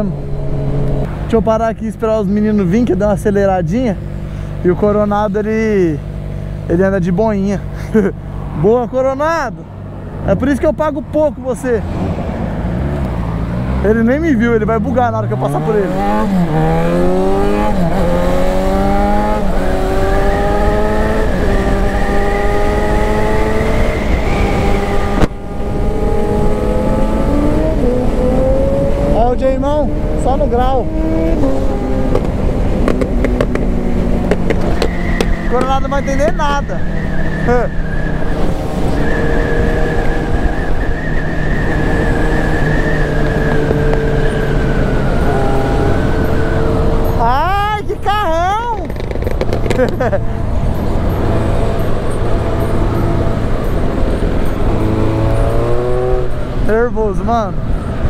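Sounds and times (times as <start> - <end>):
low wind rumble: 0.0 - 58.0
motorcycle engine accelerating: 0.0 - 58.0.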